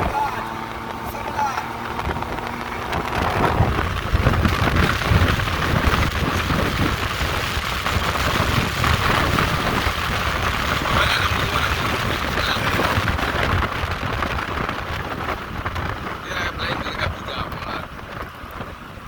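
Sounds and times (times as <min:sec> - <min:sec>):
car driving at speed: 0:00.0 - 0:19.0
wind buffeting microphone: 0:00.0 - 0:19.0.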